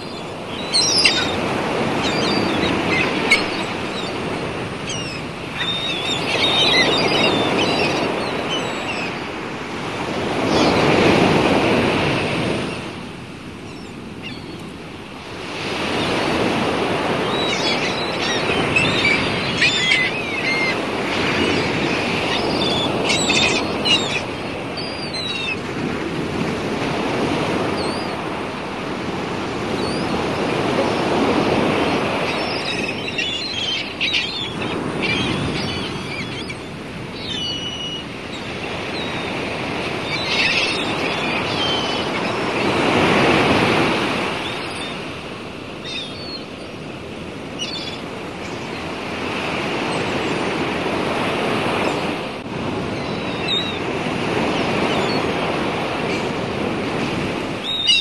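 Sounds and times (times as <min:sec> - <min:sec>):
sea water rushing and breaking: 0:00.0 - 0:58.0.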